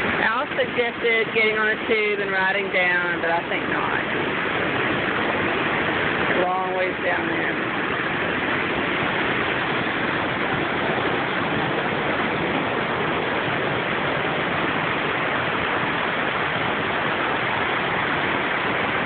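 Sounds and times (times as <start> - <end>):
white water rushing: 0.0 - 19.0.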